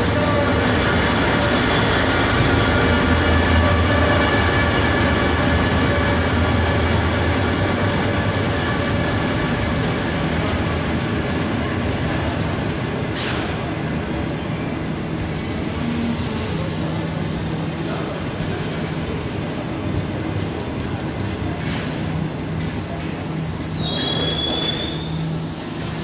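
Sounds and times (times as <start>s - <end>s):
train engine hum: 0.0s - 26.0s.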